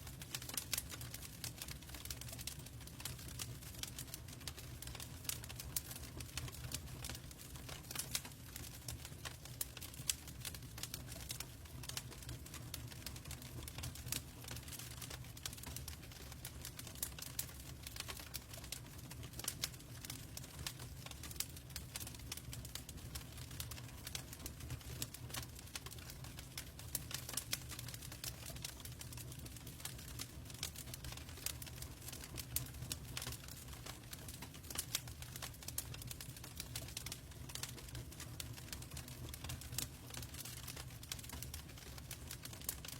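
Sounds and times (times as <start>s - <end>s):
wood logs crackling in fireplace: 0.0s - 42.9s.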